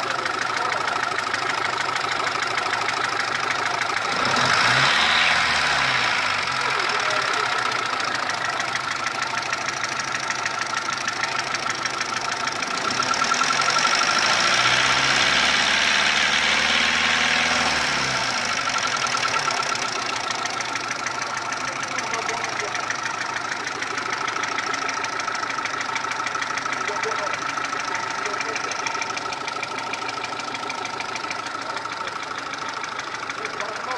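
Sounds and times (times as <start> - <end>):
petrol engine with abnormal noise: 0.0 - 33.9.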